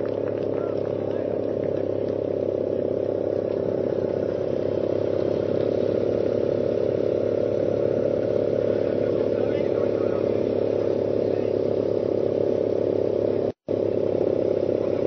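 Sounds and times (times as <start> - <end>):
motorcycle engine drone: 0.0 - 15.0.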